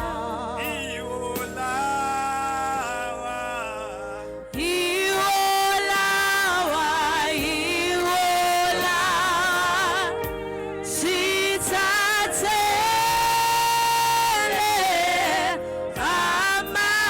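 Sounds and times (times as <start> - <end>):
person singing gospel: 0.0 - 17.0
sustained accompaniment: 0.0 - 17.0.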